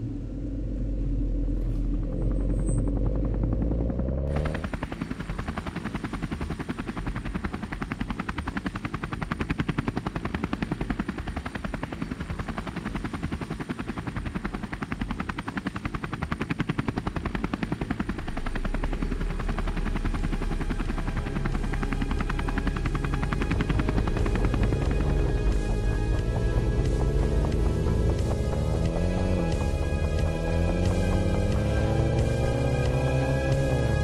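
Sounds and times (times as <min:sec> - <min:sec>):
low steady drone: 0:00.0 - 0:34.0
helicopter rotor blades chopping: 0:01.3 - 0:34.0.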